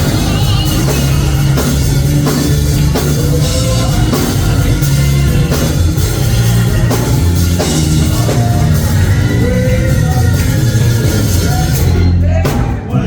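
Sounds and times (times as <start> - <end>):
drum beats: 0.0 - 13.0
heavy bass line: 0.0 - 13.0.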